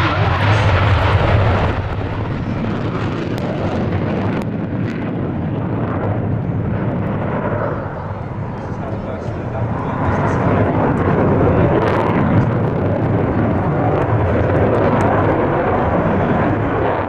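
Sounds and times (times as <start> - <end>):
jet aircraft engine rumble: 0.0 - 17.0.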